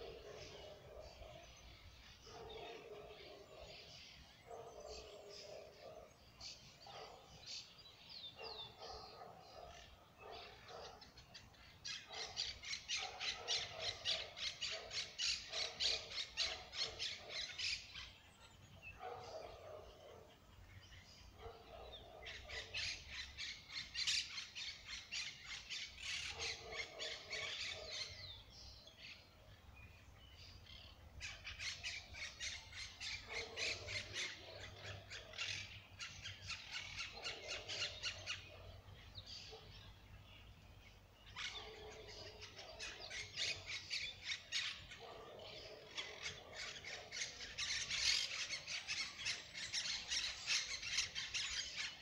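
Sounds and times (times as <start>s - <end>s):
birds squawking and chirping: 0.0s - 52.0s.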